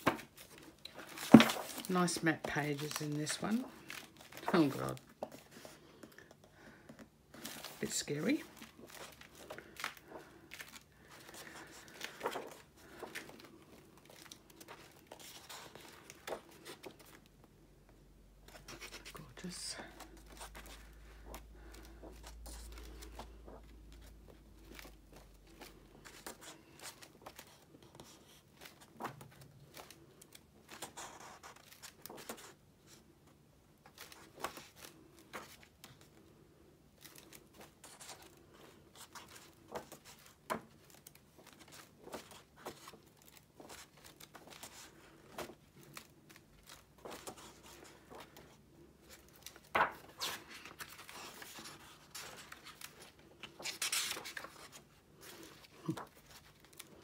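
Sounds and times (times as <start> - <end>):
book pages turning: 0.0 - 17.4, 18.4 - 33.1, 33.8 - 57.0.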